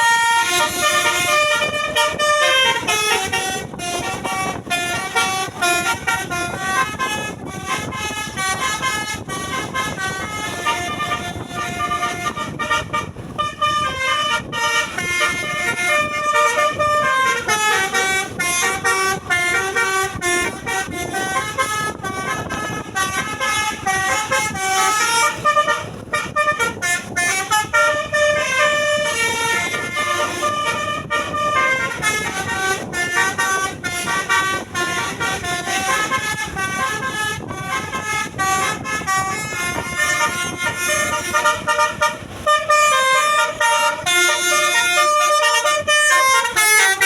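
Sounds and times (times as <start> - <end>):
musical bus horn playing a tune: 0.0 - 47.0.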